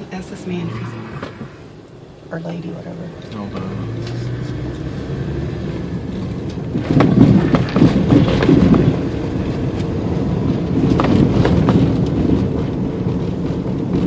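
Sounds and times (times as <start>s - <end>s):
car road rumble: 0.0s - 14.0s.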